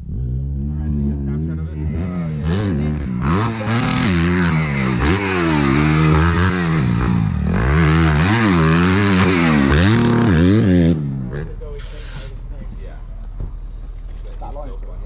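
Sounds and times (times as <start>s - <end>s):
motocross bike engine revving: 0.0s - 12.5s.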